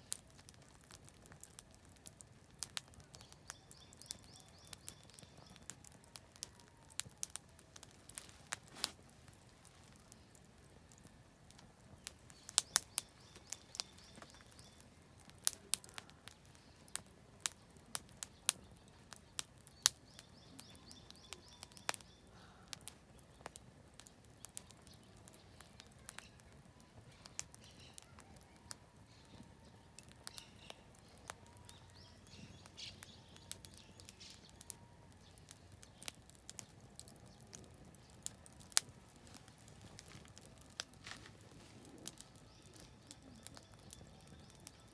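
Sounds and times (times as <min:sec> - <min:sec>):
campfire crackling and popping: 0:00.0 - 0:44.9
small birds chirping: 0:00.1 - 0:44.9.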